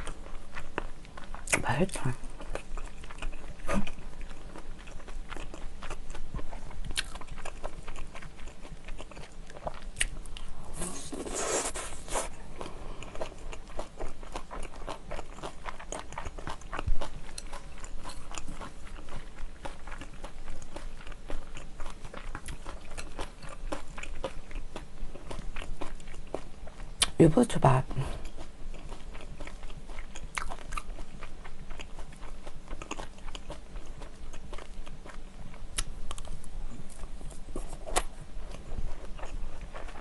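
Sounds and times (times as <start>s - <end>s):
chewing and crunching food: 0.0s - 40.0s.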